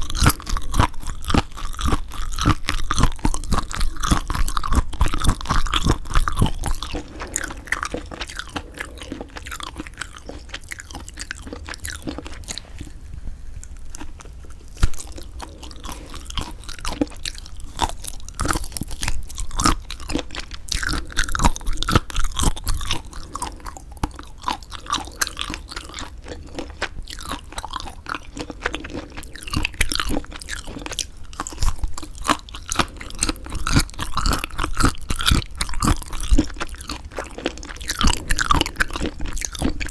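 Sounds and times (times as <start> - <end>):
wet sticky chewing: 0.0 - 39.9.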